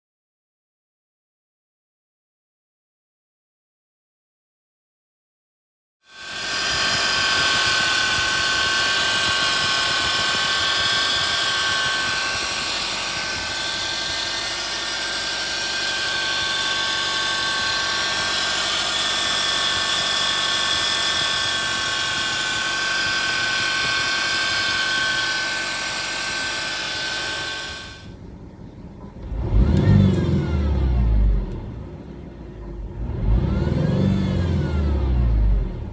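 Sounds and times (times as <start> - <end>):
car engine high-pitched whine: 6.1 - 35.9.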